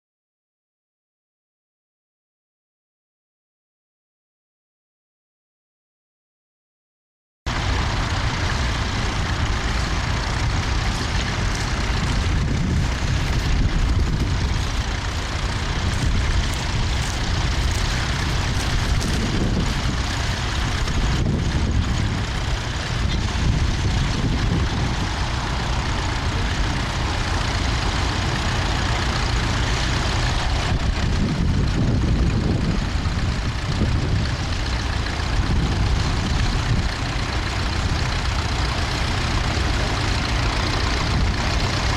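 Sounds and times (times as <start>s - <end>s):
tractor engine running: 7.5s - 41.9s.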